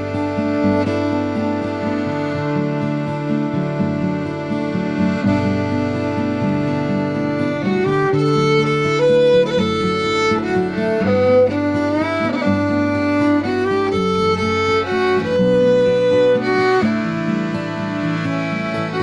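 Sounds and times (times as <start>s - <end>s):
fiddle playing slow melody: 0.0s - 19.0s
sustained string accompaniment: 0.0s - 19.0s.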